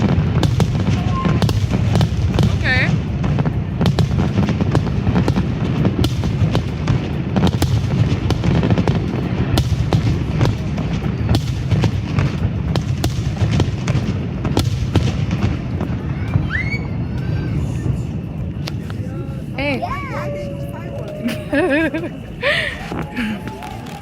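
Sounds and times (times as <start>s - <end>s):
fireworks bangs and crackles: 0.0s - 24.0s
low rumble: 0.0s - 24.0s.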